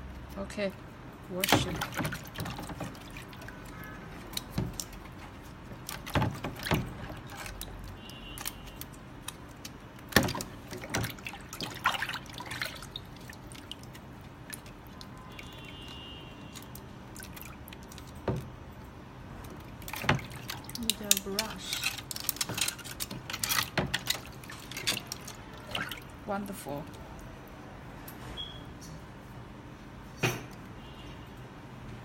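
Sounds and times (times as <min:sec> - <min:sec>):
water sloshing in a plastic tub: 0:00.2 - 0:28.5
sharp splashes and knocks: 0:01.3 - 0:27.3.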